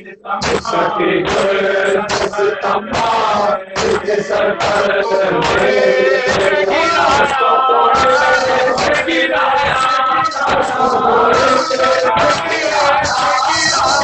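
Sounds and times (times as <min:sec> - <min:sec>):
group of men chanting: 0:00.0 - 0:14.0
man chanting into a microphone: 0:00.0 - 0:14.0
chest-beating slaps: 0:00.4 - 0:07.4, 0:08.0 - 0:14.0.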